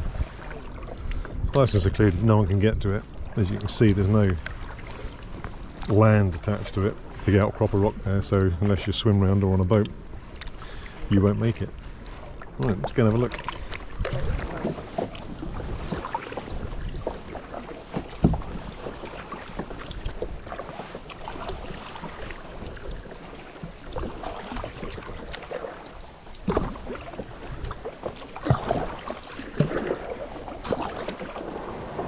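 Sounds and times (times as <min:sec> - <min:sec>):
paddle splashing: 0:00.0 - 0:32.0
water sloshing against kayak: 0:00.0 - 0:32.0.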